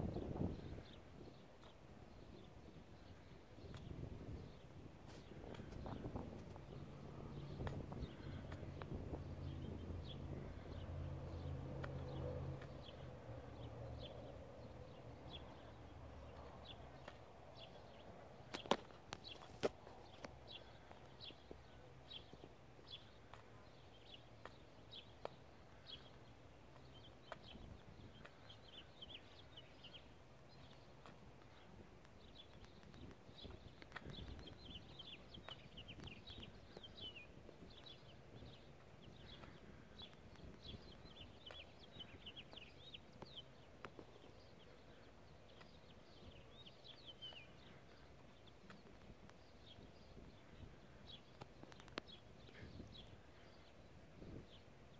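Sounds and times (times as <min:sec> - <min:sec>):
small bird chirping: 0:00.1 - 0:54.8.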